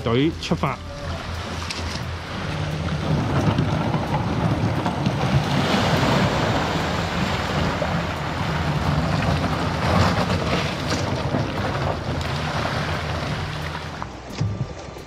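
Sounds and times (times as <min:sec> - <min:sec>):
water washing around kayak: 0:01.2 - 0:14.2.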